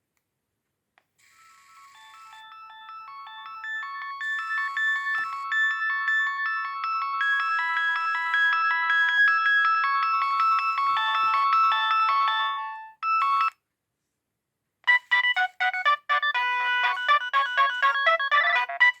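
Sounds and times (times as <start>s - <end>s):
ringtone with choppy notes: 1.3s - 13.6s, 14.9s - 19.0s
polyphonic ringtone melody: 1.4s - 13.5s, 14.9s - 19.0s.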